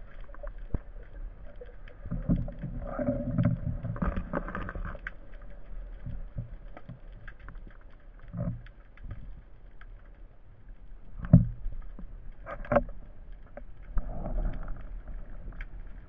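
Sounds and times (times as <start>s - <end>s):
underwater water movement: 0.0s - 16.0s.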